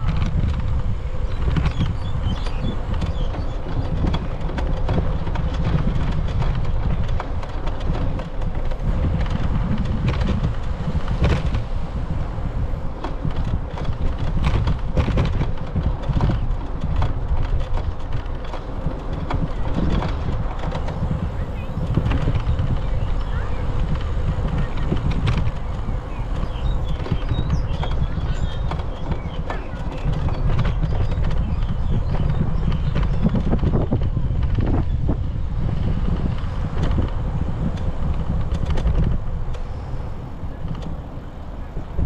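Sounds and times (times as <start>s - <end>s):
bicycle clicks and rattles: 0.0s - 42.0s
wind rumble on microphone: 0.0s - 42.0s.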